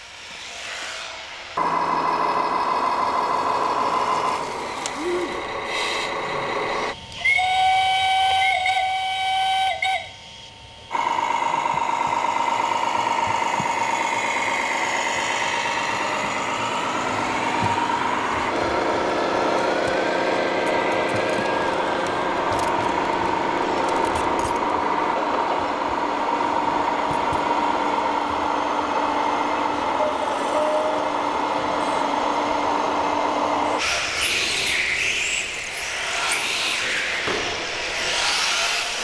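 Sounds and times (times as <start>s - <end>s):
steady droning hum: 1.4s - 39.0s.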